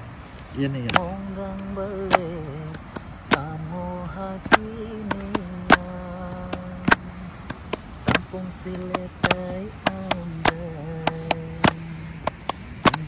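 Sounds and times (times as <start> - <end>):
person singing long notes: 0.7 - 7.5, 8.1 - 13.0
sharp knocks: 2.1 - 13.0.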